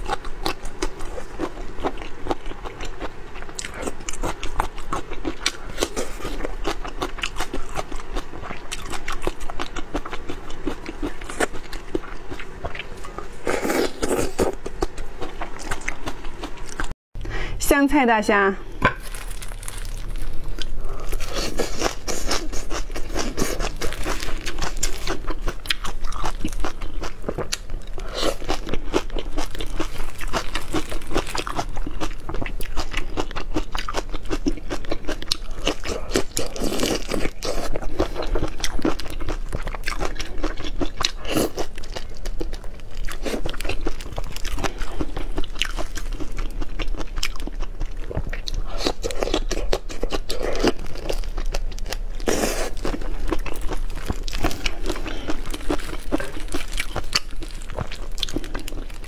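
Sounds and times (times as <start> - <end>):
crunching and chewing food: 0.0 - 17.0, 18.7 - 59.0.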